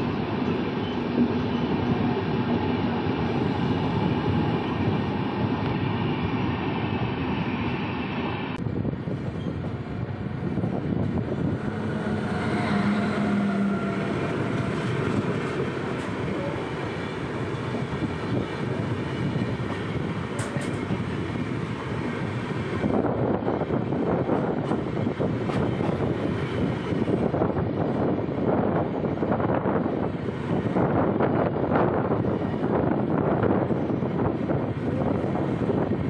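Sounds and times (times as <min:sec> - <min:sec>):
train passing on next track: 0:00.0 - 0:36.0
train wheels rumbling on rails: 0:00.0 - 0:36.0.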